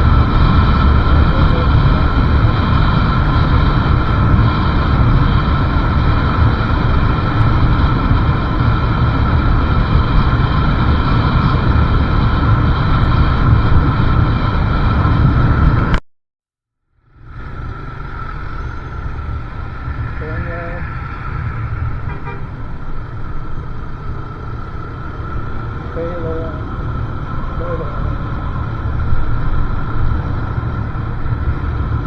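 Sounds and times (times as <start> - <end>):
motorbike engine running: 0.0 - 16.0, 17.0 - 32.0
wind and road noise: 0.0 - 16.0, 16.9 - 32.0.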